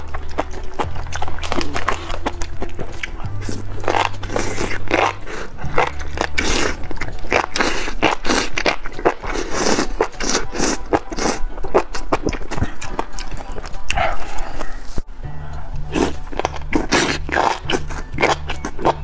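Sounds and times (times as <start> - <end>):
wet slurping: 0.0 - 15.0, 15.9 - 19.0
chewing: 0.0 - 19.0.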